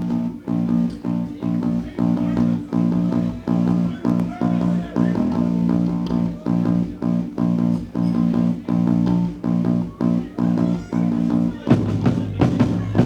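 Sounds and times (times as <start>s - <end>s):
band playing guitar and bass: 0.0s - 13.0s.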